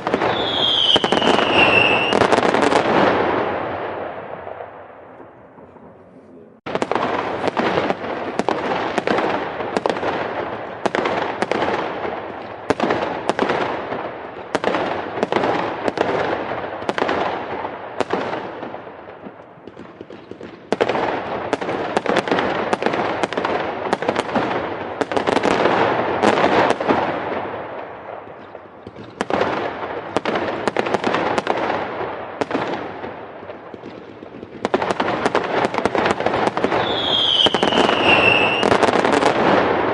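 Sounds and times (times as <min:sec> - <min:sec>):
fireworks crackling bangs: 0:00.0 - 0:39.9.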